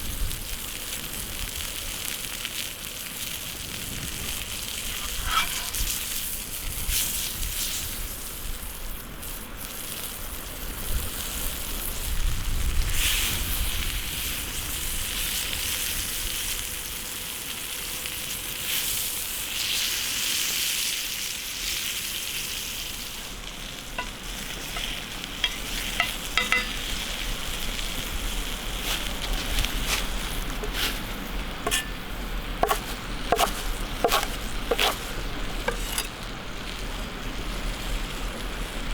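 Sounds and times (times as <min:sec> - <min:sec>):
patty sizzling in hot oil: 0:00.0 - 0:38.9.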